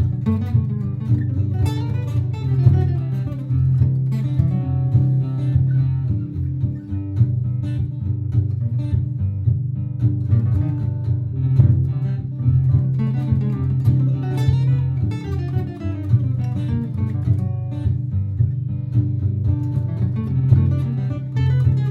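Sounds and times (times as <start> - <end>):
looped acoustic guitar chords: 0.0 - 21.9
plucked guitar melody: 0.0 - 21.9.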